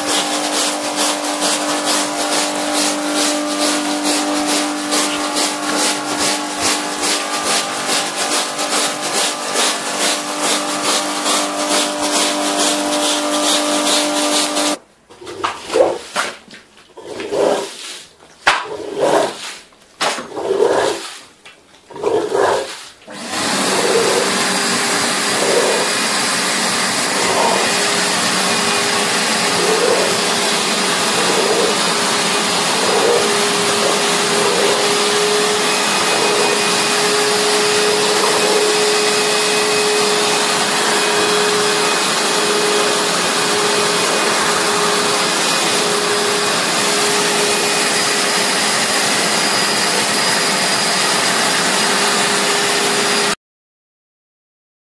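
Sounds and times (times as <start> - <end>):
carpet vacuum whining: 0.0 - 14.8, 22.0 - 53.4.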